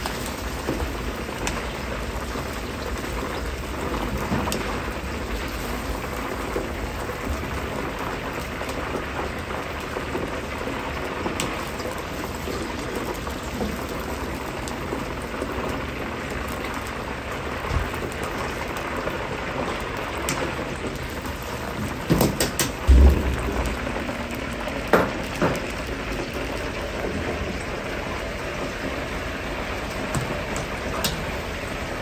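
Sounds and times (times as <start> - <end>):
oil sizzling in a wok: 0.0 - 32.0.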